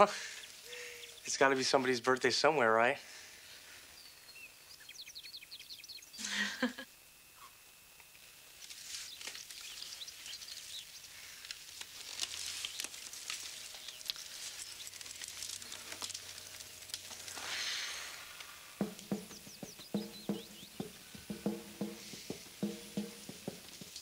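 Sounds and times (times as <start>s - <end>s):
faint hiss: 0.0s - 24.0s.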